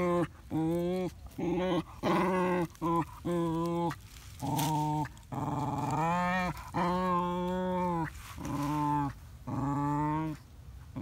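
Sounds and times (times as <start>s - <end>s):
puppies growling: 0.0s - 10.4s.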